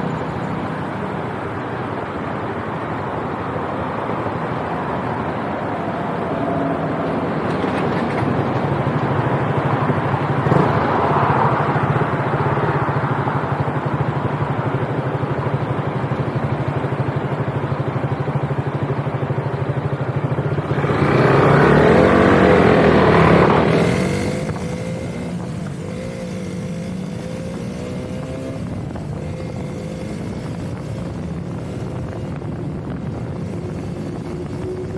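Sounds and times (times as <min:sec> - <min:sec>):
loud rush of noise: 0:00.0 - 0:34.9
wind noise: 0:00.0 - 0:34.9
motorcycle engine running: 0:06.5 - 0:34.9.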